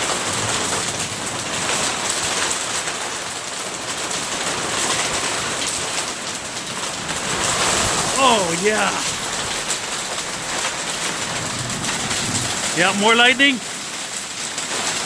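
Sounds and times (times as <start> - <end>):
heavy rain on hard surfaces: 0.0 - 15.0.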